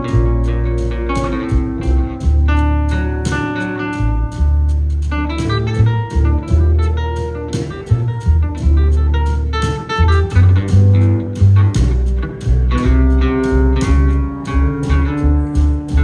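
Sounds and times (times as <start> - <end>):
bass line: 0.0 - 16.0
drum beat: 0.0 - 16.0
electric guitar lead: 0.0 - 16.0.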